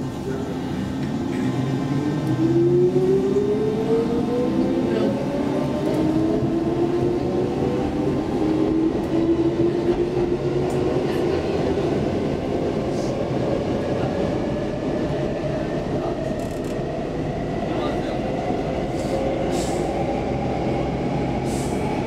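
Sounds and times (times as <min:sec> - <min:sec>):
subway car wheels rumbling: 0:00.0 - 0:22.0.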